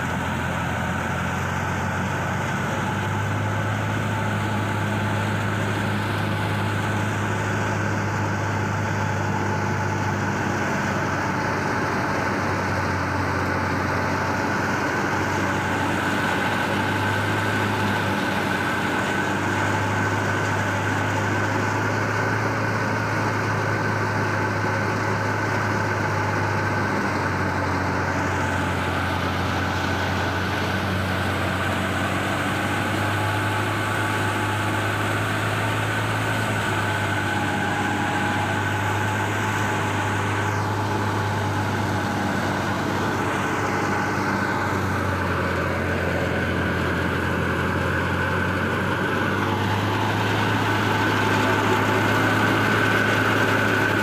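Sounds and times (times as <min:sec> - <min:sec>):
thresher high whine: 0:00.0 - 0:54.0
tractor engine hum: 0:00.0 - 0:54.0.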